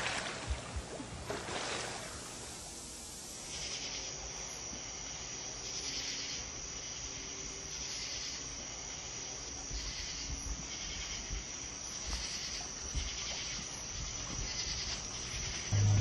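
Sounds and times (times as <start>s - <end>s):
crickets chirring: 2.0s - 16.0s.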